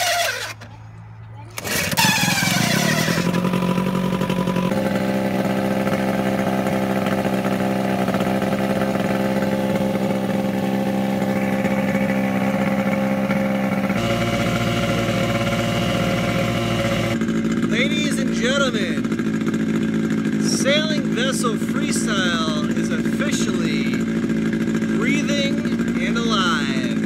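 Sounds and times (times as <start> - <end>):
small outboard motor running: 0.0 - 27.0.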